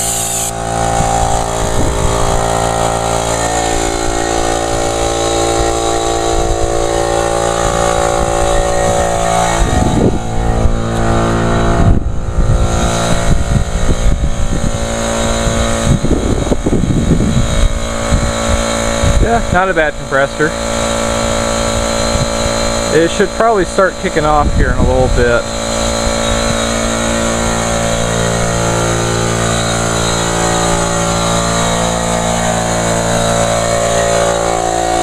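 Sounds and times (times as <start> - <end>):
air compressor running: 0.0 - 35.0.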